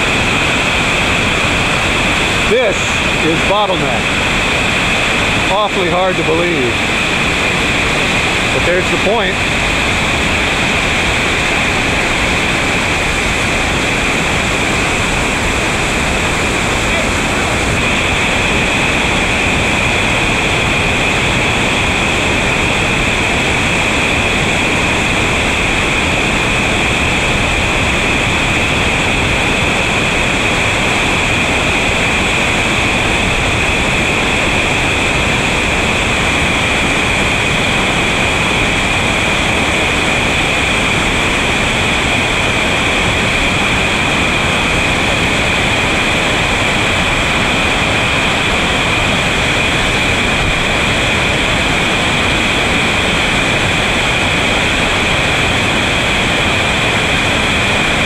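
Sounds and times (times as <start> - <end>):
whitewater rapids rushing: 0.0 - 58.0.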